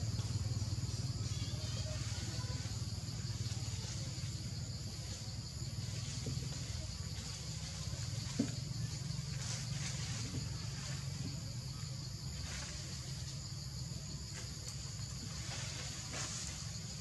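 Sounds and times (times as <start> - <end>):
continuous low hum: 0.0 - 17.0.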